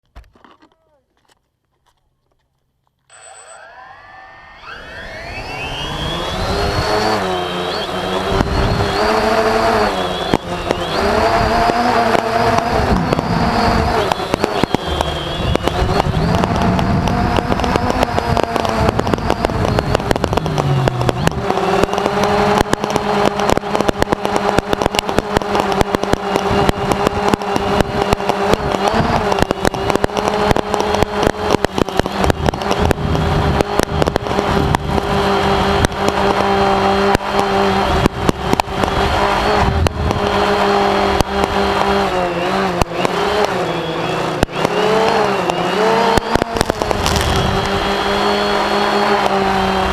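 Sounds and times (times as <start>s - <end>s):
drone propellers whining: 3.1s - 49.9s
crackles and pops: 6.5s - 49.9s.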